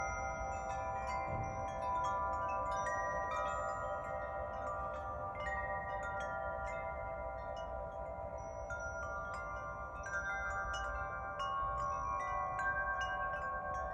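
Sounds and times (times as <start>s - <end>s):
metal tube wind chimes ringing: 0.0s - 13.9s.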